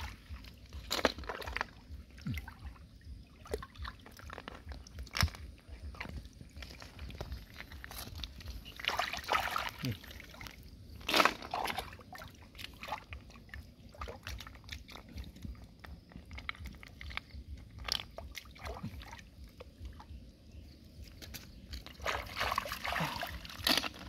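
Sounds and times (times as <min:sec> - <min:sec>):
light water sloshing: 0:00.0 - 0:24.0.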